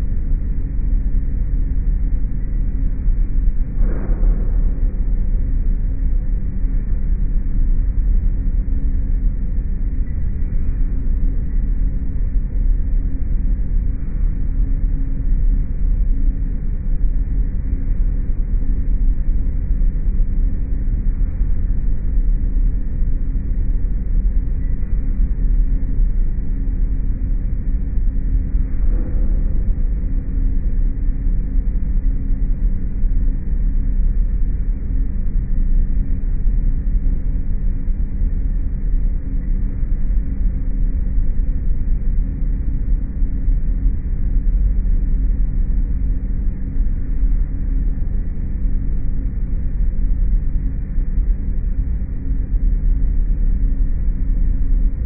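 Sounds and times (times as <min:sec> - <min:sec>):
low mechanical drone: 0:00.0 - 0:55.0.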